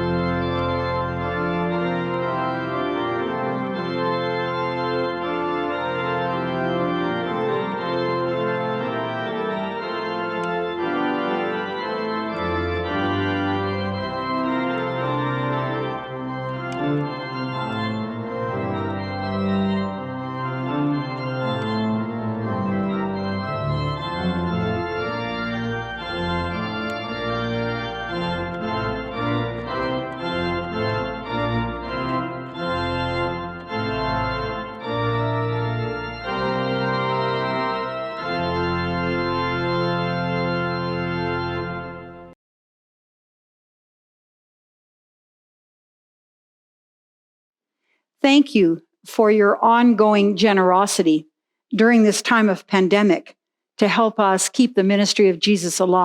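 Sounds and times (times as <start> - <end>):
organ chords: 0.0 - 42.4, 48.3 - 51.2, 51.8 - 56.0.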